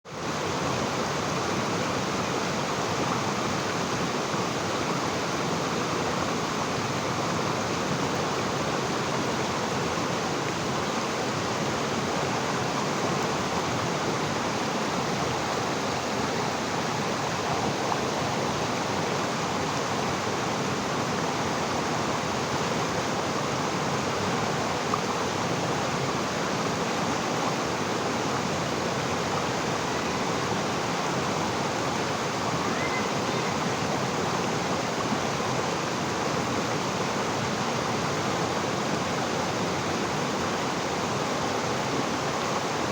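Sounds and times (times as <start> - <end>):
river rushing over rocks: 0.1 - 42.9.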